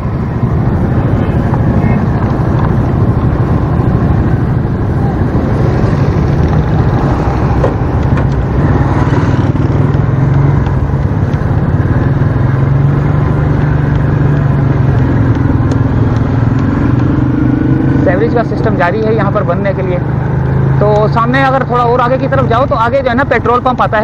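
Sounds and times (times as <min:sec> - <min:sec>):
small motorcycle engine running: 0:00.0 - 0:21.4.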